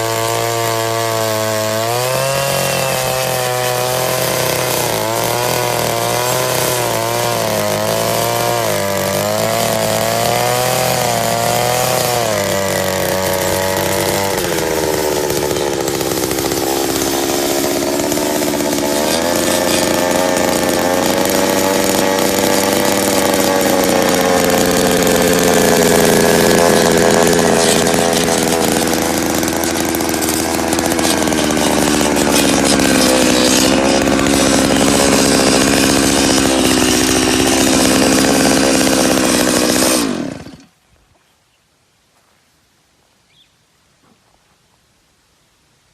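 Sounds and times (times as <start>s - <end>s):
earth auger engine running: 0.0s - 40.7s.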